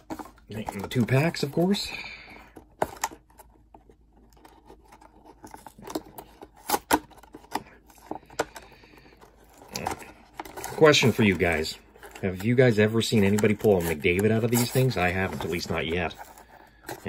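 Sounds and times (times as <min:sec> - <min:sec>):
cardboard box clicks and crackles: 0:02.6 - 0:17.0.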